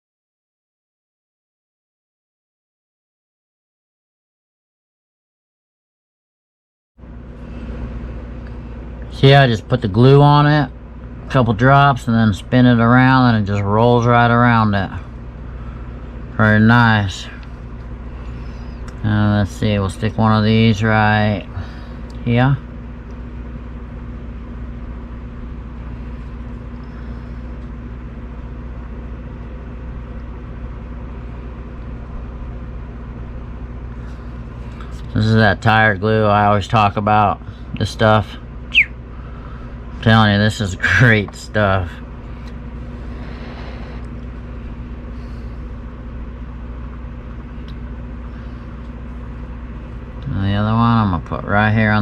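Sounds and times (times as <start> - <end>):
steady low hum: 7.0 - 52.0.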